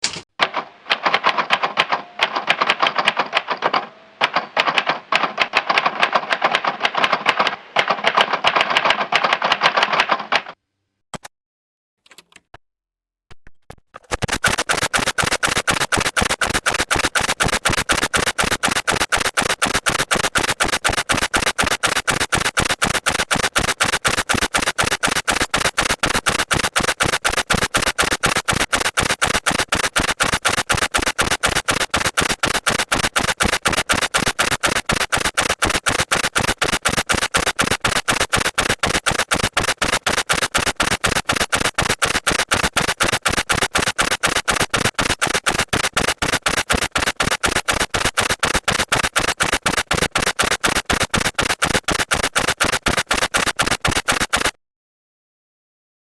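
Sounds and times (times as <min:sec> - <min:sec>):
computer keyboard typing: 0:00.0 - 0:10.6, 0:14.2 - 0:54.6.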